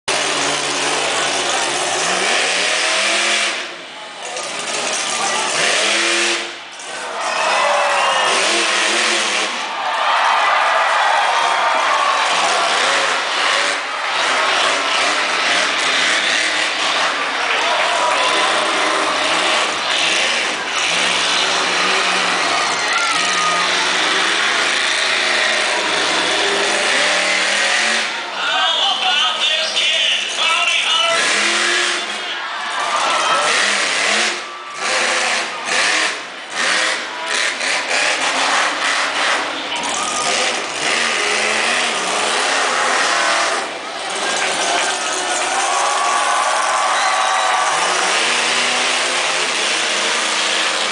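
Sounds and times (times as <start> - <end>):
monster truck engine revving: 0.0 - 28.4, 29.2 - 50.9.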